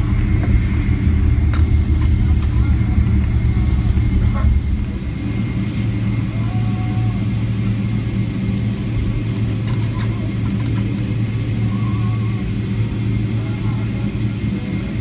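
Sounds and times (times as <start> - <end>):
faint steady whine: 0.0 - 15.0
low engine rumble in cabin: 0.0 - 15.0.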